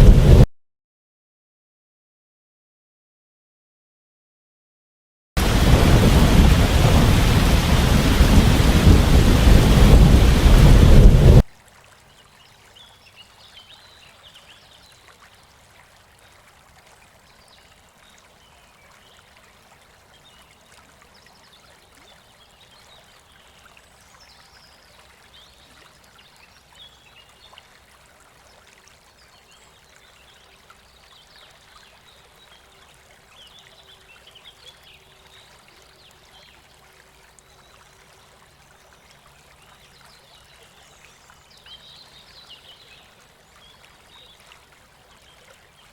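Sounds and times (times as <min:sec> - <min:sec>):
faint river water running: 0:05.4 - 0:45.9.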